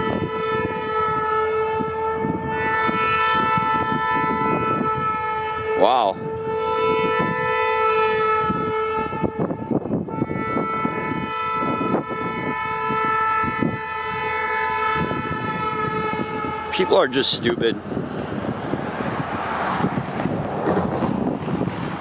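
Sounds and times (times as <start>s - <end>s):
locomotive air horn chord: 0.0s - 18.6s.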